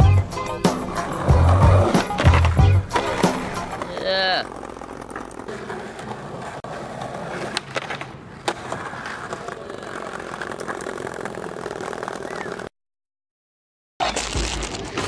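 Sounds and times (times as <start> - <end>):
skateboard rolling on bricks: 0.2 - 12.7, 14.0 - 15.0
skateboard clacks: 0.3 - 12.7.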